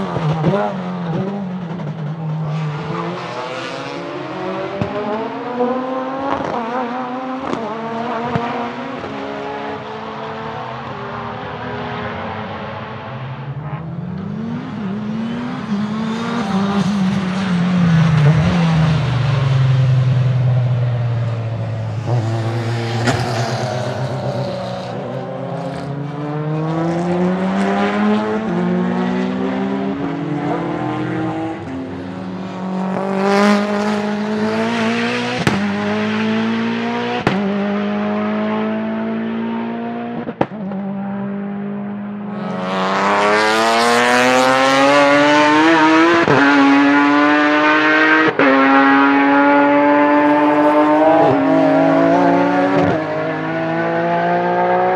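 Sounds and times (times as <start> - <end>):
race car engines at full throttle: 0.0 - 54.9.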